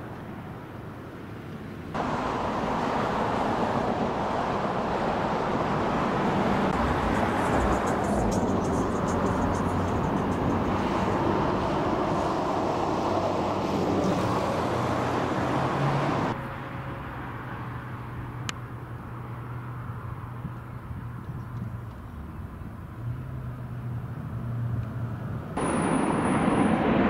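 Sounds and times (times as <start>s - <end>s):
low engine hum: 0.0s - 27.0s
road traffic: 0.0s - 27.0s.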